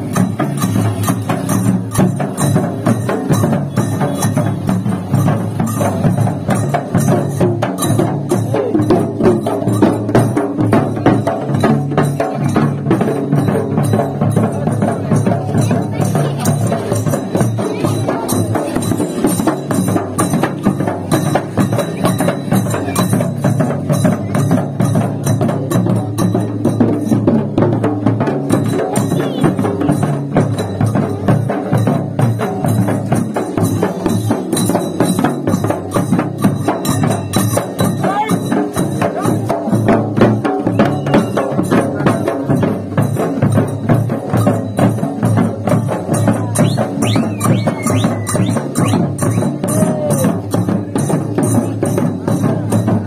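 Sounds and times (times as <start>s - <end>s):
barrel drums beaten fast: 0.0s - 53.0s.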